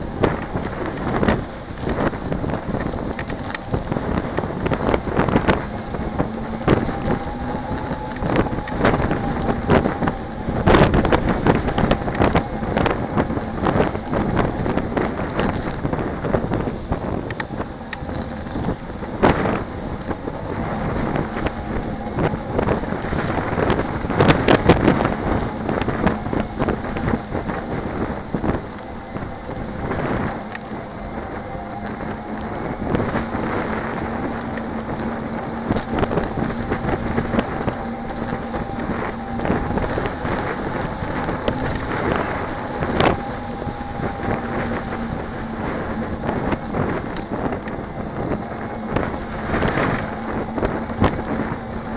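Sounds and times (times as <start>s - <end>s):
faint steady whine: 0.0s - 51.9s
wind buffeting microphone: 0.0s - 51.9s.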